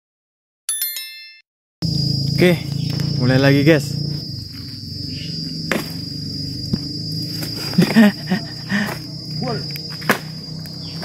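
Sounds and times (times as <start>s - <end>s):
high-pitched insect chirring: 1.8s - 11.0s.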